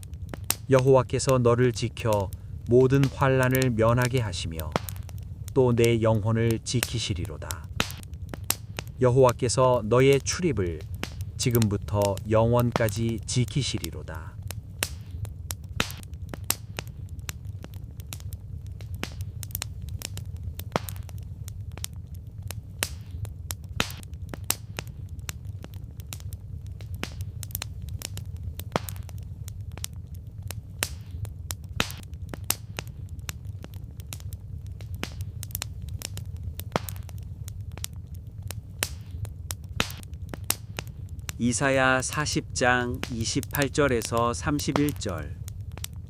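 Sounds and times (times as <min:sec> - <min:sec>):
firewood crackling and popping: 0:00.0 - 0:46.0.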